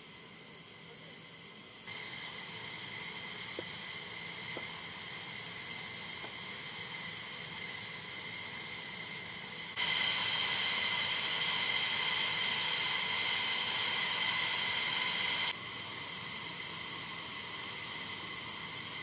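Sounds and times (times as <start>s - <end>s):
jet turbines whining: 0.0s - 19.0s.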